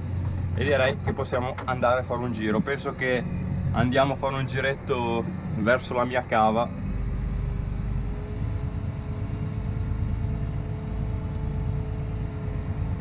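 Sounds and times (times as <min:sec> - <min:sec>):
diesel engine running low revs: 0:00.0 - 0:13.0.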